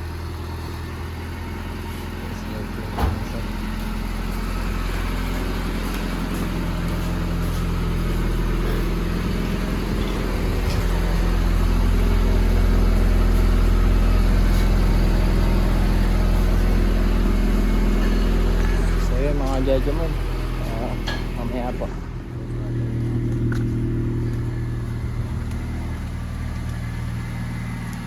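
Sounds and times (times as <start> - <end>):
engine and road noise drone: 0.0 - 28.0.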